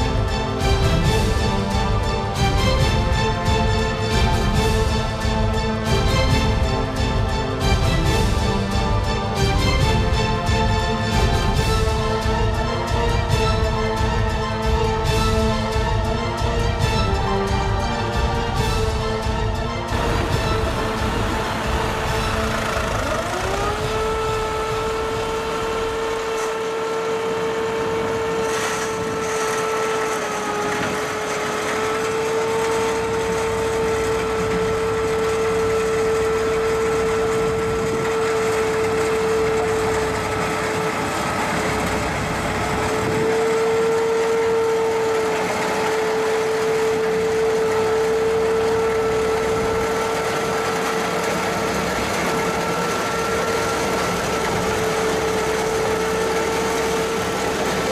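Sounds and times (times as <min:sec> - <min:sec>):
harvester mechanical whine: 0:00.0 - 0:57.9
tractor engine running: 0:00.0 - 0:57.9.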